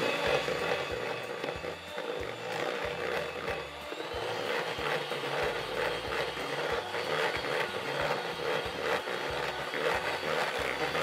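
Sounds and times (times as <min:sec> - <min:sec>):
electric hand mixer whipping: 0:00.0 - 0:11.0.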